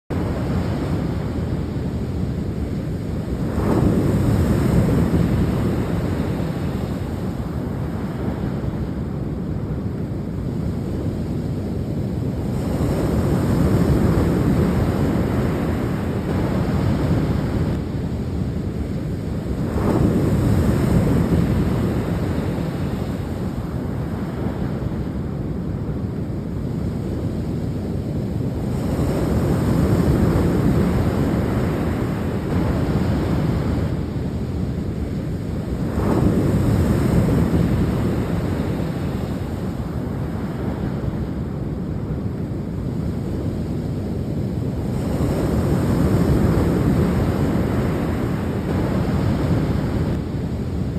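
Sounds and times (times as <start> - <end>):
sea waves breaking on shore: 0.1 - 50.9.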